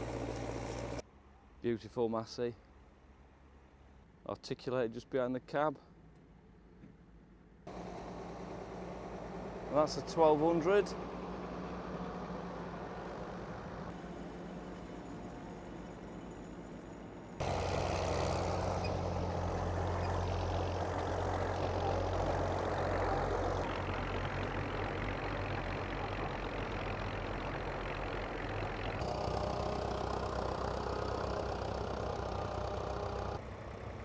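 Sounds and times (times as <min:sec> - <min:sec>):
tractor engines running: 0:00.0 - 0:01.0, 0:07.7 - 0:34.0.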